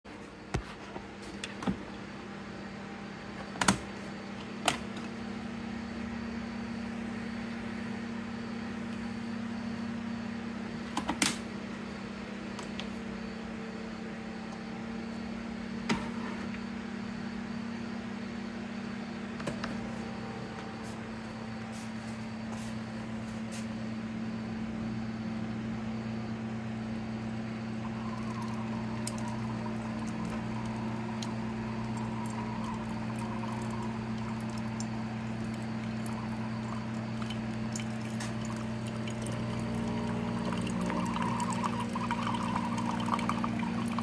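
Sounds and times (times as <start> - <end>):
steady low hum: 0.1 - 44.0.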